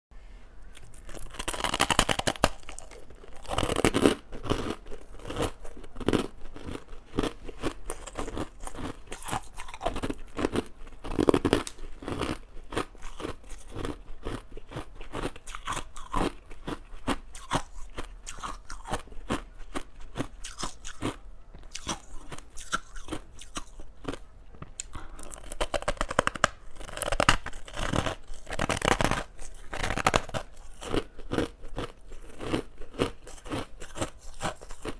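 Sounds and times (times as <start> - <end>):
crunching and chewing ice: 0.6 - 34.9.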